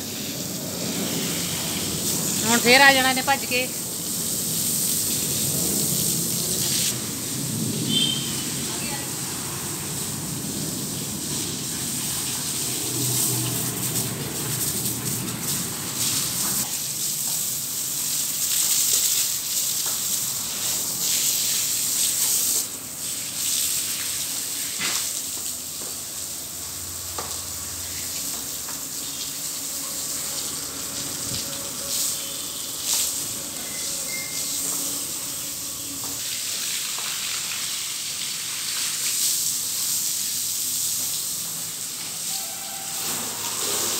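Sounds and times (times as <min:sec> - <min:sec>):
hose spraying water on tiles: 0:00.0 - 0:43.9.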